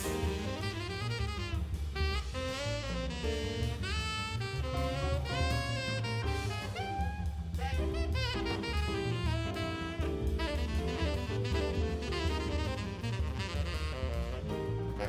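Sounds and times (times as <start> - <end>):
bass line: 0.0 - 15.0
drums: 0.0 - 15.0
saxophone melody with vibrato: 0.0 - 15.0.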